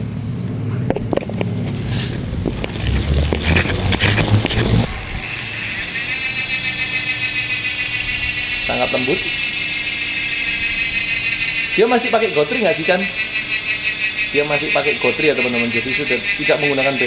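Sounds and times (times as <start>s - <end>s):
freehub buzzing: 0.0s - 17.0s
bicycle chain clicking and rattling: 1.4s - 17.0s.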